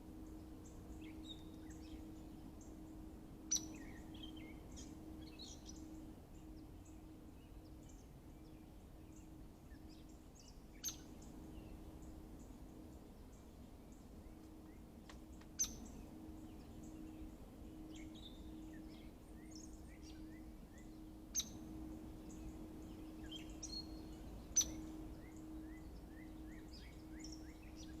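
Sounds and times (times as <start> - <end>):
faint steady hum: 0.0 - 28.0
wild birds chirping: 0.1 - 28.0.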